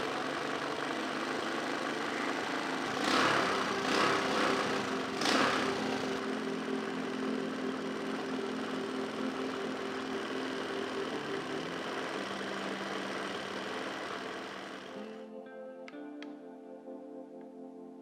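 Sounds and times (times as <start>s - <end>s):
small engine running: 0.0s - 15.3s.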